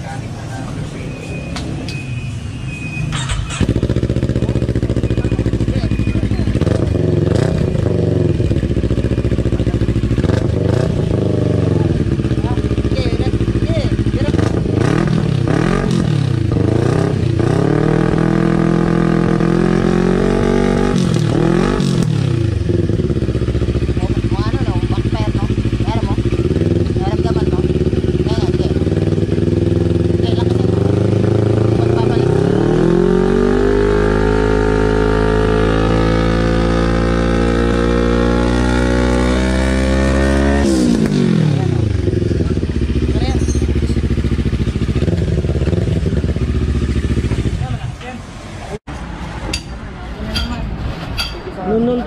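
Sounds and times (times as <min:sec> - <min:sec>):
motorcycle engine revving: 0:00.0 - 0:48.8.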